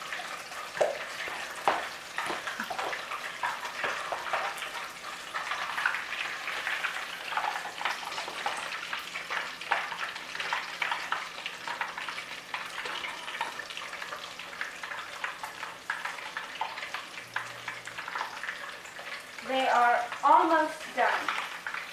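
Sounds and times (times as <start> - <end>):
food sizzling in deep fryer: 0.0 - 21.9.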